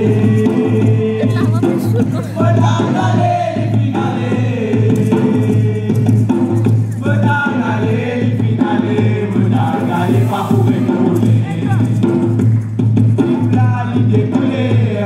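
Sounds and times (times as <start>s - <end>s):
hand-played frame drums: 0.0s - 15.0s
voices singing: 0.0s - 15.0s.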